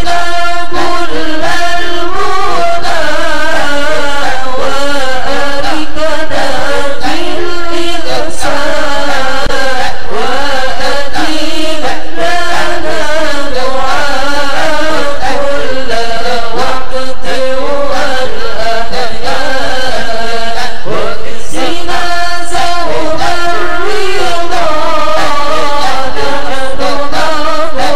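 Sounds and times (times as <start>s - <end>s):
devotional chanting: 0.0s - 27.9s.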